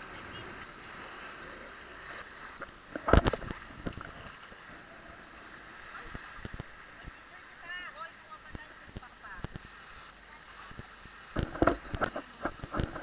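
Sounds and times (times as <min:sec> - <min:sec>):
small waves washing onto sand: 0:00.0 - 0:13.0.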